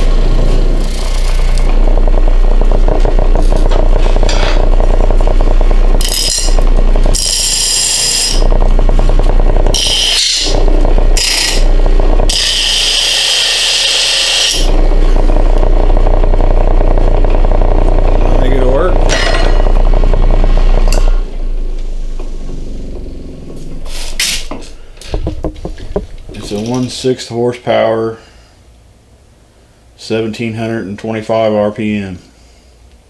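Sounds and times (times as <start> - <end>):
bench grinder humming: 0.0 - 26.9.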